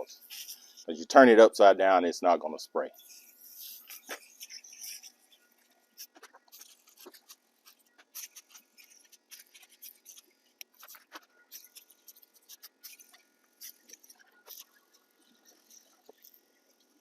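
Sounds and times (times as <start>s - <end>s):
foam crackling and popping: 0.0s - 1.0s, 3.0s - 17.0s.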